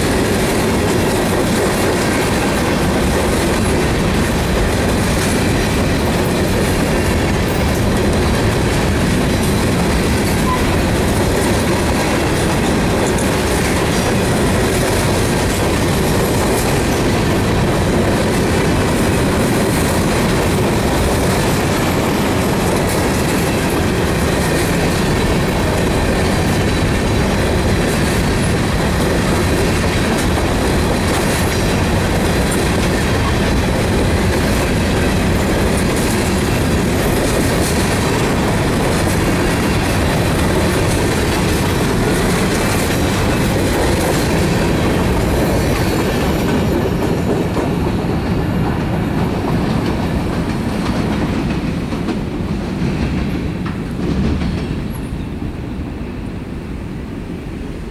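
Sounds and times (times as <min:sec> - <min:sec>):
freight train wheels clattering: 0:00.0 - 0:56.4.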